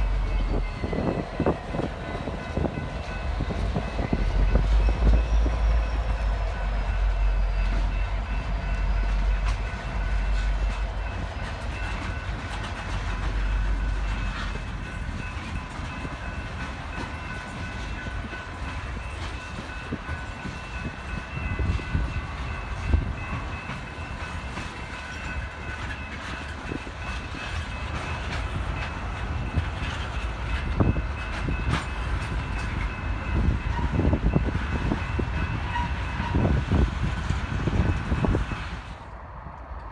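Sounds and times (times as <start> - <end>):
rail clicks and knocks: 0.0 - 39.9
train passing on rails: 0.0 - 39.9.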